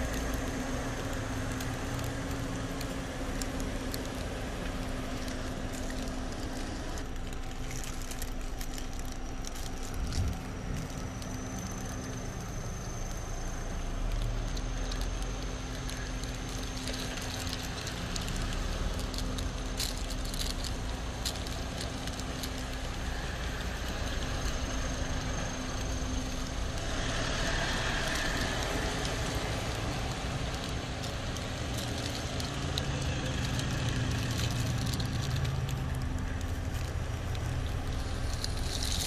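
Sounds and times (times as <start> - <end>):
car running: 0.0 - 39.0
traffic on wet road: 0.0 - 39.0
vehicle passing: 0.0 - 39.0.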